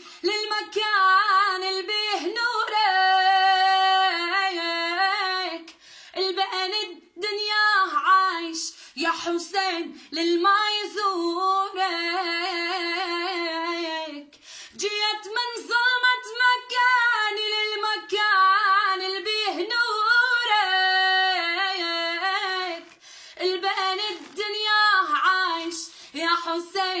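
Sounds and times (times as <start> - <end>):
high voice singing unaccompanied: 0.2 - 27.0.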